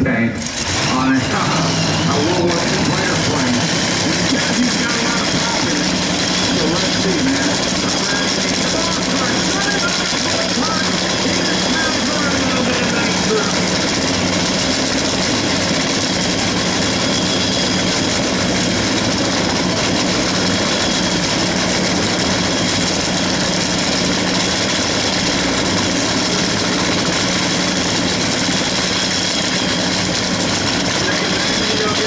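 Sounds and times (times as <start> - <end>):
race car engine idling: 0.0 - 32.0.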